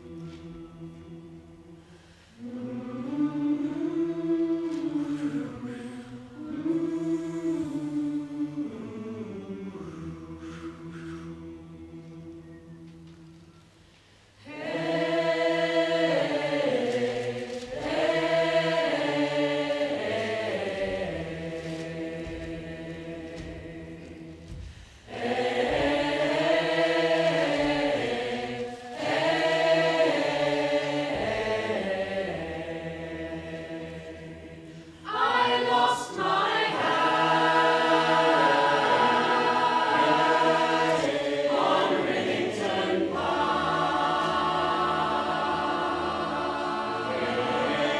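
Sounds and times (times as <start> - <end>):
choir singing sustained chords: 0.0 - 47.9.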